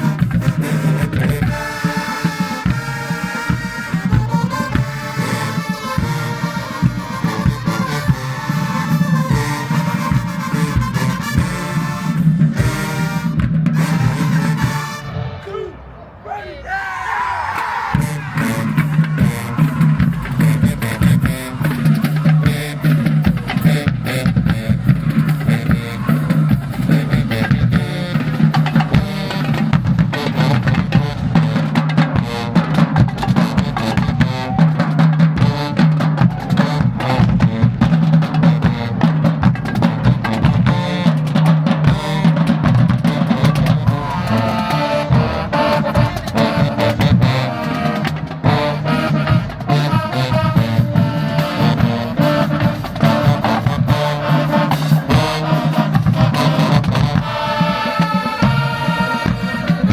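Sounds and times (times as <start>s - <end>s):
snare and bass drums: 0.0s - 15.7s, 18.0s - 59.9s
marching band playing: 0.0s - 59.9s.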